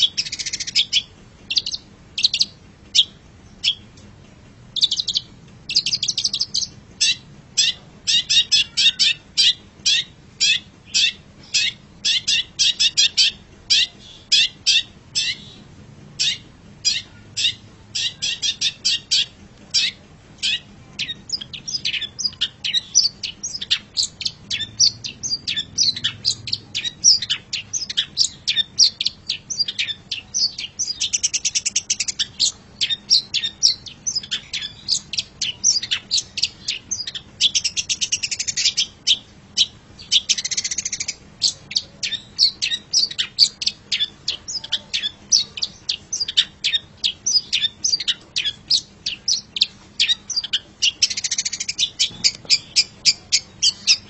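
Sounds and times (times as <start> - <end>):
bird chirping: 0.0 - 4.0, 4.7 - 54.0.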